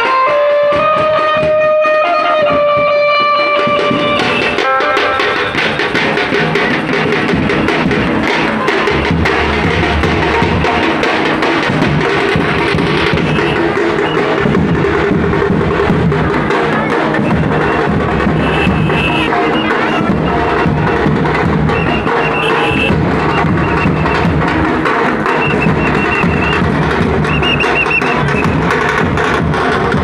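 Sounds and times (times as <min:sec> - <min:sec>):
drum-heavy dance music: 0:03.6 - 0:30.0.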